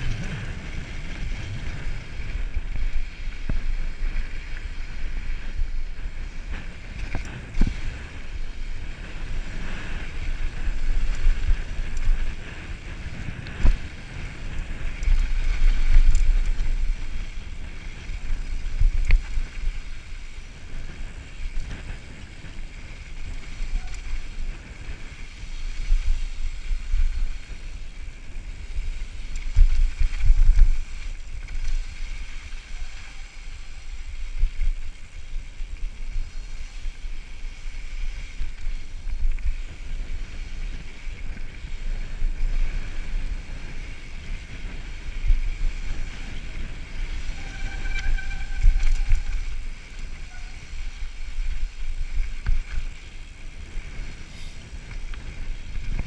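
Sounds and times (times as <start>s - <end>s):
bike rattling over trail: 0.0s - 56.0s
wind buffeting microphone: 0.0s - 56.0s.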